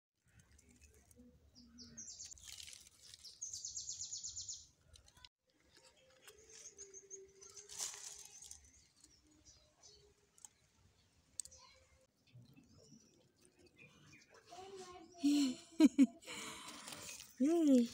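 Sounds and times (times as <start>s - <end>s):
small birds chirping: 0.2s - 17.9s.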